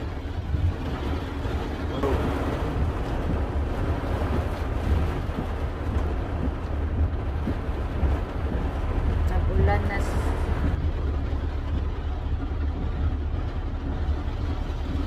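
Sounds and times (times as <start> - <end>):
car engine and road rumble: 0.0 - 15.0
rain and wet tyres hiss: 0.0 - 15.0.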